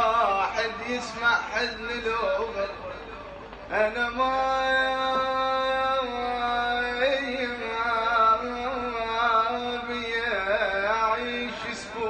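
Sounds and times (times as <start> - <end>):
man singing ornamented melody: 0.0 - 12.0.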